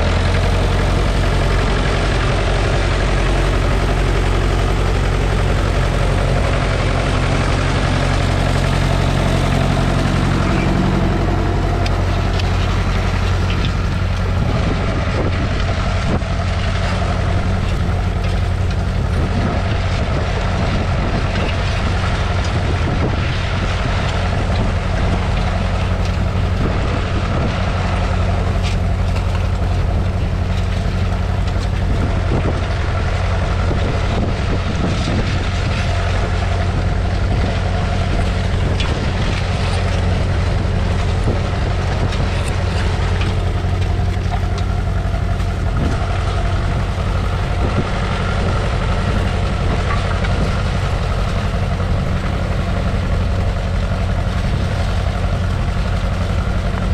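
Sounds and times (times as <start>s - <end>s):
diesel engine running steadily: 0.0s - 56.9s.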